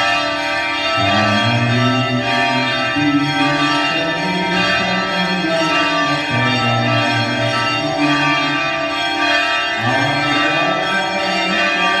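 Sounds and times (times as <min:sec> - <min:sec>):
organ chords: 0:00.0 - 0:12.0.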